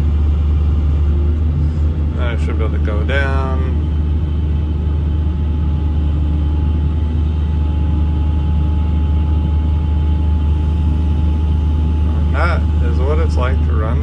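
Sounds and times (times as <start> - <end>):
excavator diesel engine: 0.0 - 14.0
faint hydraulic whine: 0.0 - 14.0.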